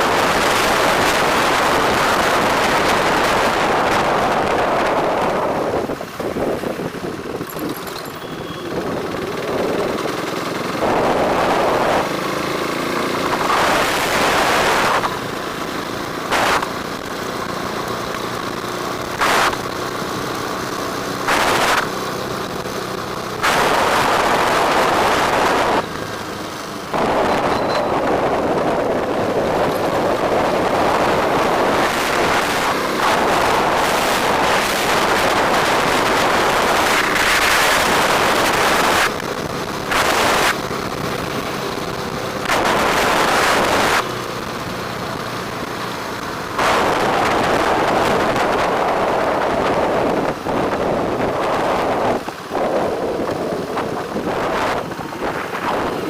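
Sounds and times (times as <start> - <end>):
road and traffic noise: 0.0 - 56.0
wind rushing over microphone: 0.0 - 56.0.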